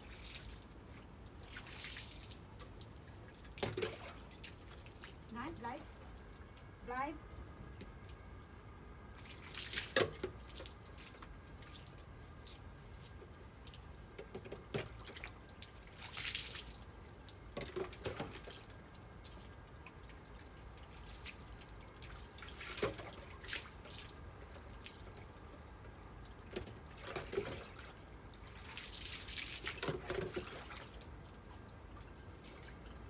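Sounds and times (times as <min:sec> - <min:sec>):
water splashing and dripping: 0:00.0 - 0:33.0.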